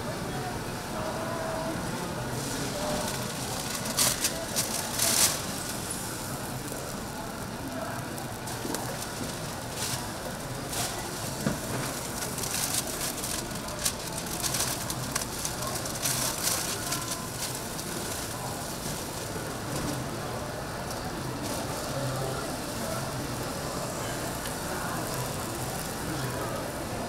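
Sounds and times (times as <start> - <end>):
faint voices: 0.0 - 27.0
hum of activity: 0.0 - 27.0.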